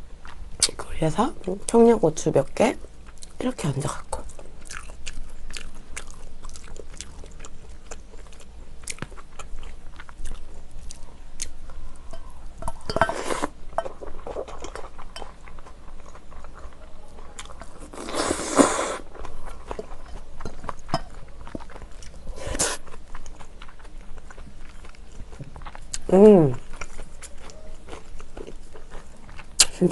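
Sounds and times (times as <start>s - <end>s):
close chewing: 2.8s - 29.9s.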